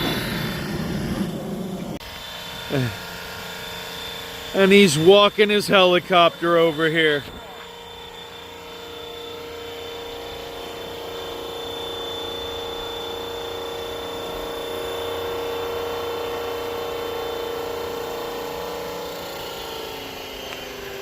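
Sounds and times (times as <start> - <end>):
rc helicopter rotor whine: 0.0 - 21.0.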